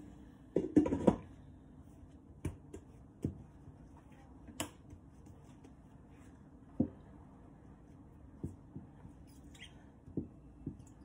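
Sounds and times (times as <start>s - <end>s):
hands working bread dough: 0.0s - 11.0s.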